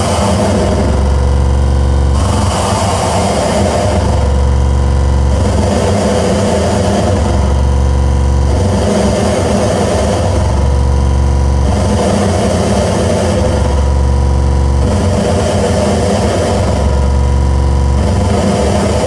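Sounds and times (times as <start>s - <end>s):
deep low droning hum: 0.0s - 19.0s.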